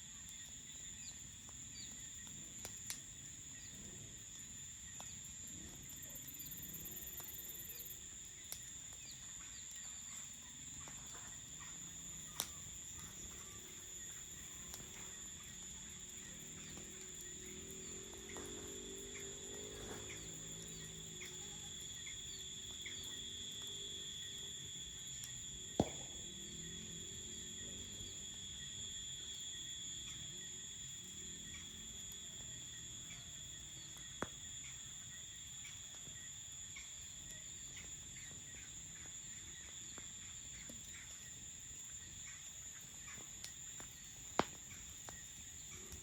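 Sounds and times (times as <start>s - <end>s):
crickets trilling: 0.0s - 46.0s
campfire popping: 0.1s - 27.5s, 33.6s - 46.0s.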